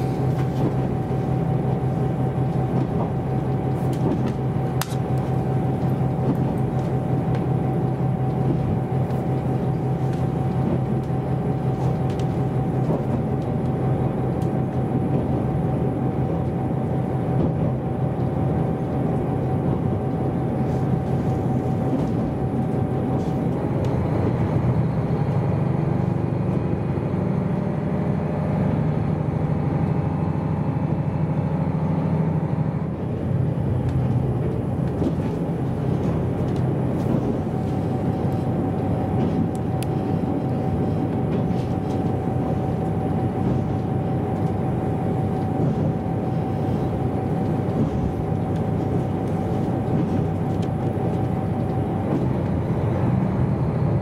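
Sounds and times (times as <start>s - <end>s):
constant whine: 0.0s - 54.0s
train engine and rail drone: 0.0s - 54.0s.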